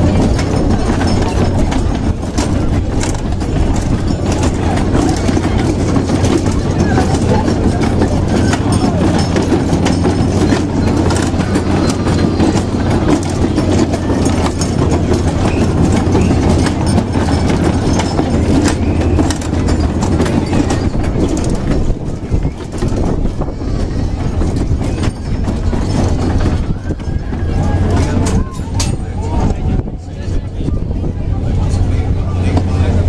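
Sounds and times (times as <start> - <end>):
ride mechanism clicks: 0.0 - 29.0
carousel ride low hum: 0.0 - 33.0.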